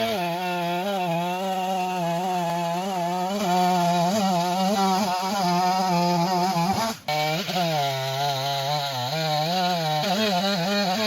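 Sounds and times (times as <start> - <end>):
chainsaw ripping a log: 0.0 - 11.0.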